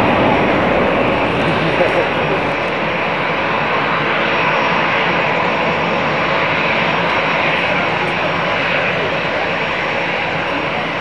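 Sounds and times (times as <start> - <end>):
jet engines rushing on takeoff: 0.0 - 11.0.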